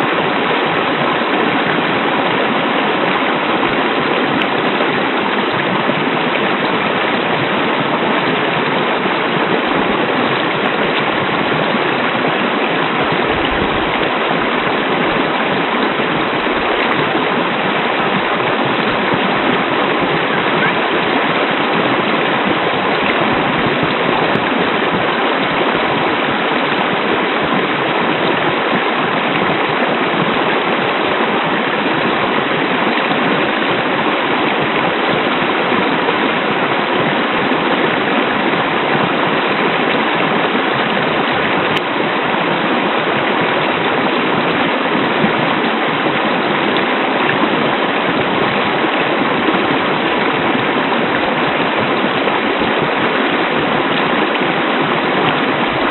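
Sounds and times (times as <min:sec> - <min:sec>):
waterfall rushing and splashing: 0:00.0 - 0:55.9.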